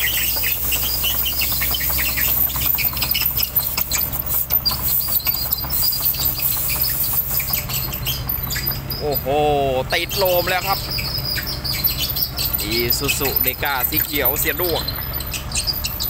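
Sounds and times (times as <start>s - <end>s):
birds chirping: 0.0s - 16.0s
truck engine idling: 0.0s - 16.0s.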